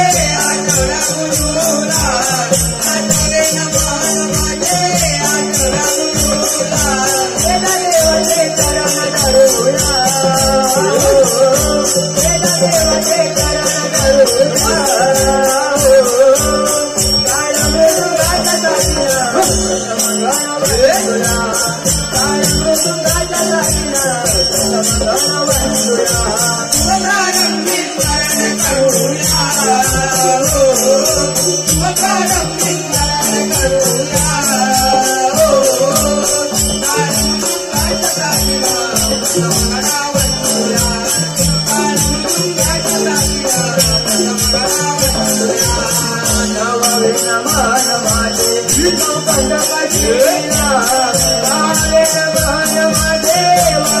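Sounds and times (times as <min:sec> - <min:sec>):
drum beat: 0:00.0 - 0:54.0
hand cymbals clashing: 0:00.0 - 0:54.0.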